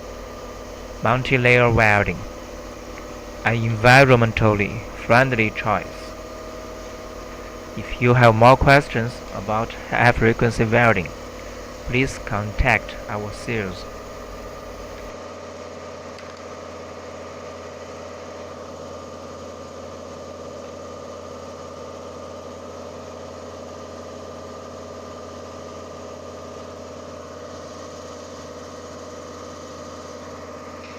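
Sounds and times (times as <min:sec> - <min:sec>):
plastic welding machine humming: 0:00.0 - 0:30.9.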